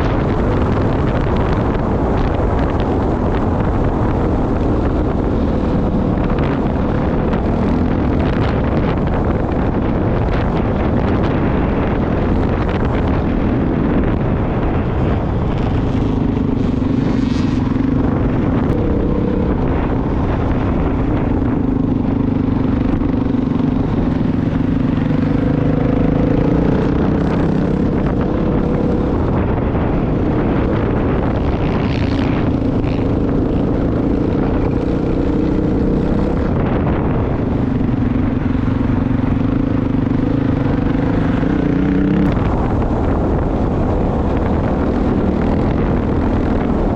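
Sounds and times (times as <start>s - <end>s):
motorcycle engine revving: 0.0s - 46.9s
wind and road noise: 0.0s - 46.9s.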